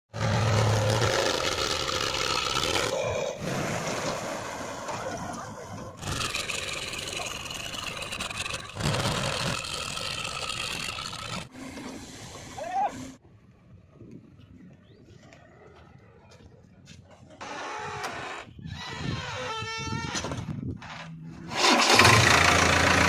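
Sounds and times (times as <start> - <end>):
diesel engines under load: 0.1 - 19.0, 19.7 - 23.0.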